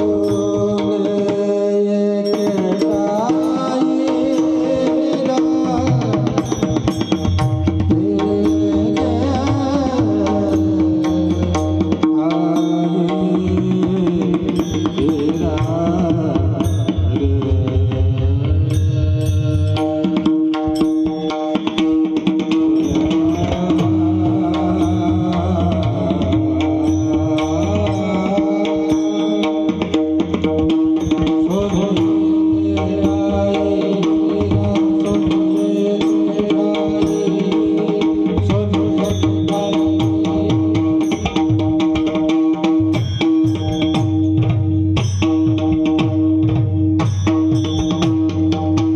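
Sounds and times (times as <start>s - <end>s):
person singing devotional song: 0.0s - 7.2s, 7.8s - 42.1s
held accompanying note: 0.0s - 48.9s.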